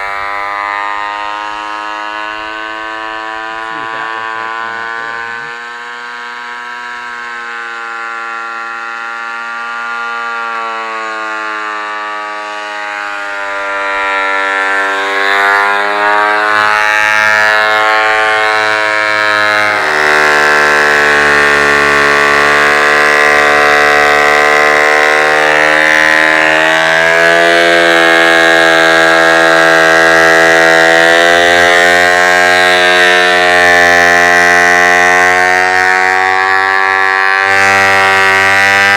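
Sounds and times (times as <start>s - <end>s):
thickness planer whining: 0.0s - 38.9s.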